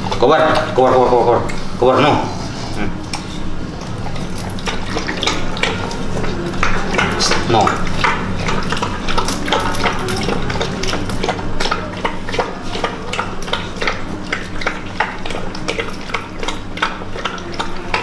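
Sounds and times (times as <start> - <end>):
dog lapping milk: 0.0 - 18.0.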